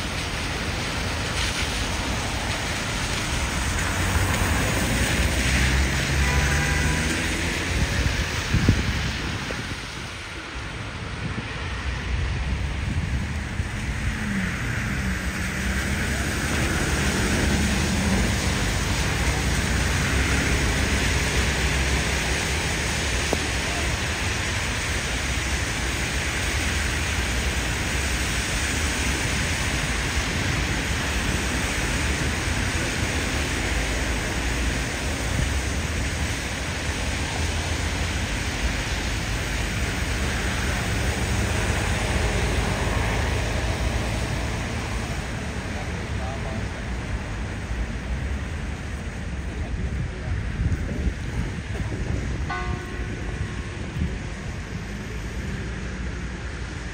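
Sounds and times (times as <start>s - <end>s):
falling water rushing: 0.0s - 56.9s.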